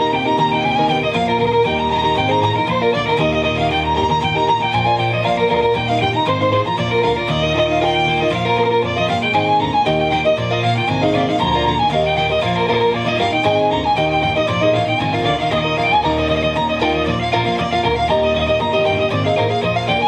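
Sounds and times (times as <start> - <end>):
fiddle folk music: 0.0 - 20.0
rhythmic accompaniment: 0.0 - 20.0.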